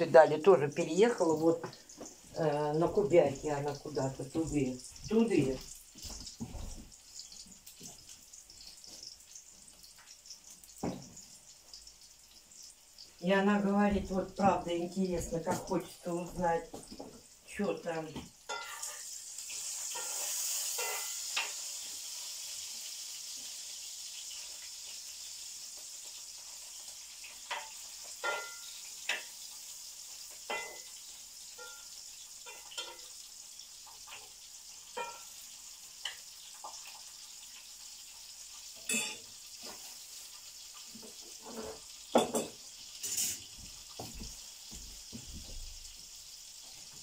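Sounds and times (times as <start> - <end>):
sausages sizzling in a pan: 0.0 - 47.0.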